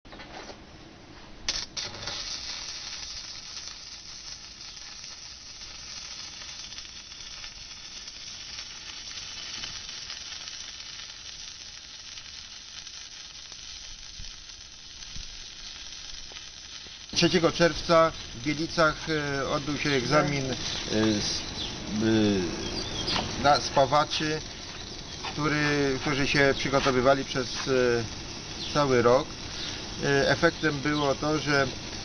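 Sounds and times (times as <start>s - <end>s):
welding arc hissing: 1.5s - 32.0s
welding arc striking: 1.5s - 32.0s.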